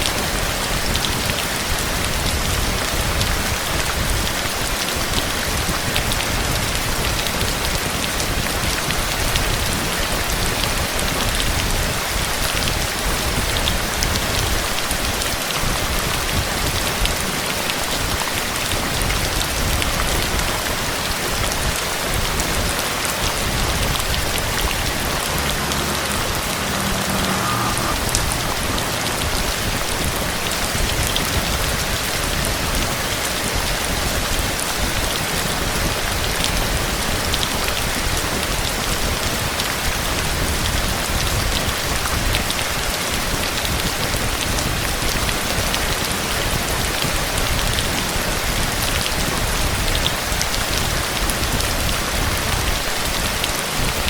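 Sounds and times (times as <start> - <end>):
heavy rain hissing: 0.0 - 54.0
individual raindrops: 0.0 - 54.0.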